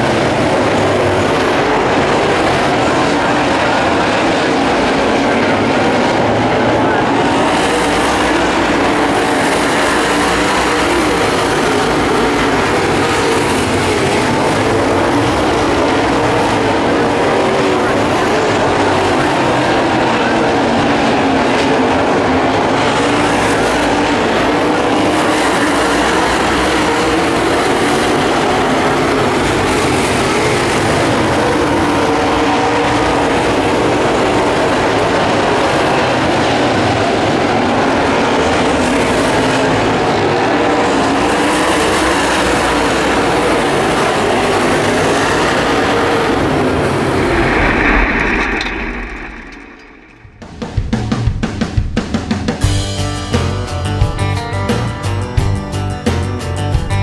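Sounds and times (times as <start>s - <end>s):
stock car engines racing: 0.0s - 50.5s.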